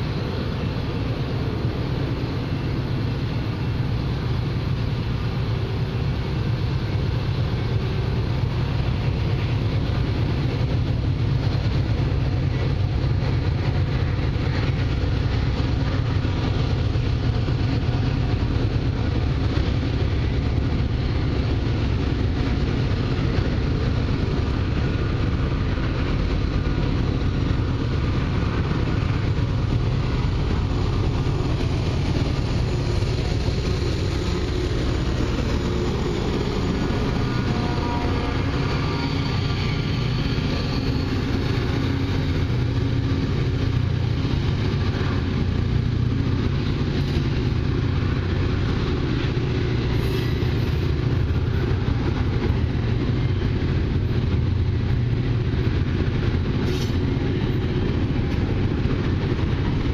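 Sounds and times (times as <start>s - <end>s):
diesel freight train rumble: 0.0s - 59.9s.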